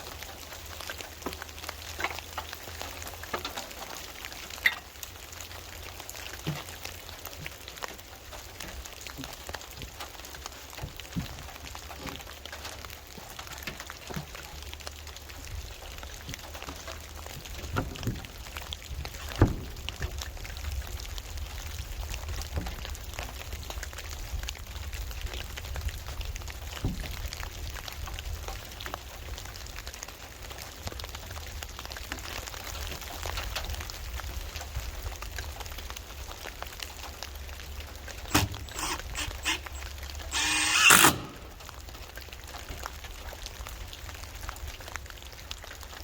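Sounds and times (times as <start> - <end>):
rain pattering on a surface: 0.0 - 40.4, 41.2 - 46.0.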